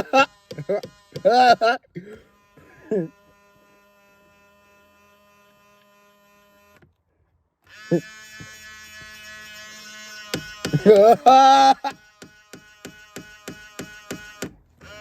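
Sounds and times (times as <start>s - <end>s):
mirror motor buzzing: 0.0s - 15.0s.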